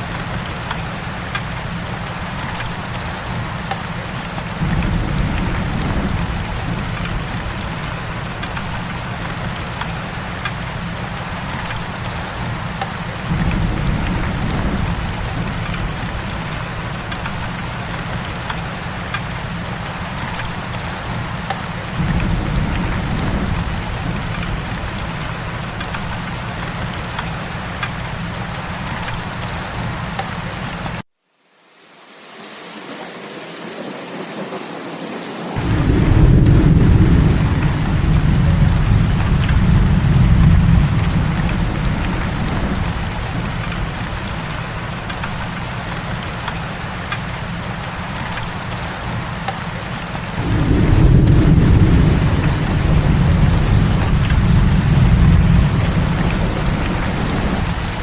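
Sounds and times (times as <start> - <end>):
heavy rain falling: 0.0 - 31.0, 32.0 - 58.0.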